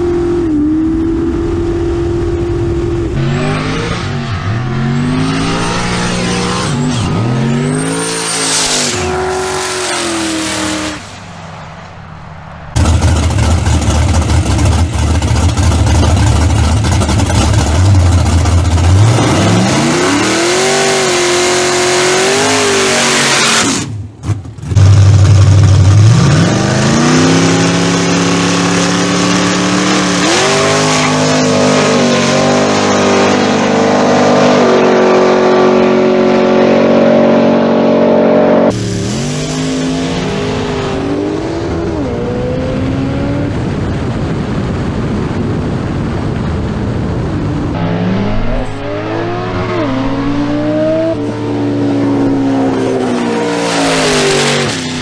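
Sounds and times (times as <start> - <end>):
race car engines revving: 0.0 - 44.4, 46.7 - 55.0.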